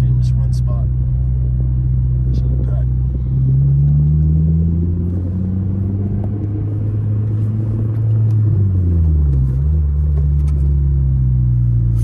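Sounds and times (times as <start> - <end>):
car engine heard from inside: 0.0 - 12.0.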